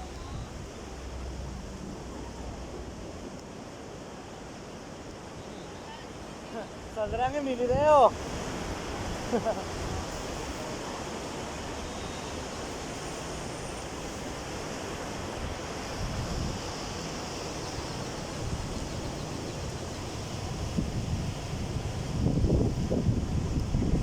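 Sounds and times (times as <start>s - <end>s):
sea waves washing onto shore: 0.0s - 24.0s.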